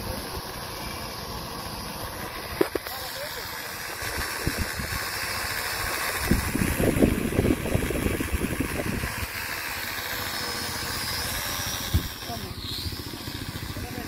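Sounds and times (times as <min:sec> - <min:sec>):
drone propellers buzzing: 0:00.0 - 0:14.0
low buffeting rumble: 0:00.0 - 0:14.0.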